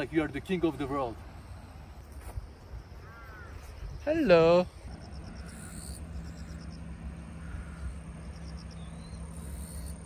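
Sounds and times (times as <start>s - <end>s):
insect chirping: 0.0s - 10.0s
low hum and rumble: 0.0s - 10.0s.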